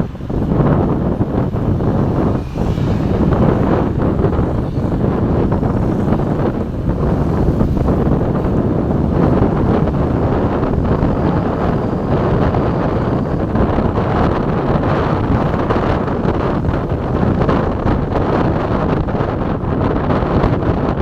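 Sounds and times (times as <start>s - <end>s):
vehicle noise: 0.0s - 21.0s
wind buffeting microphone: 0.0s - 21.0s.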